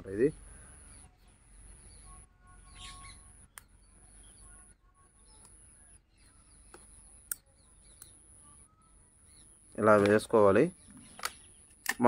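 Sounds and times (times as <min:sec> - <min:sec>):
birds chirping softly: 0:00.0 - 0:12.0.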